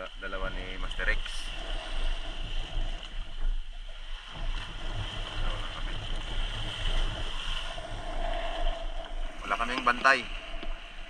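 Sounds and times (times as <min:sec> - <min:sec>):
water on shoreline: 0:00.0 - 0:11.0
wind: 0:00.0 - 0:11.0.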